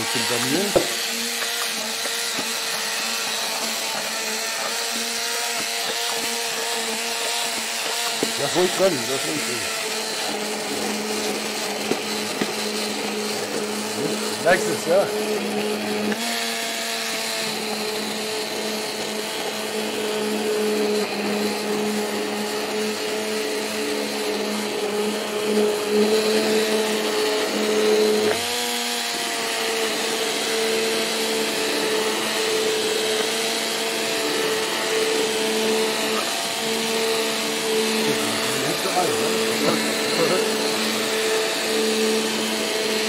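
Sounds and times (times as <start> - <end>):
immersion blender motor hum: 0.0 - 43.0.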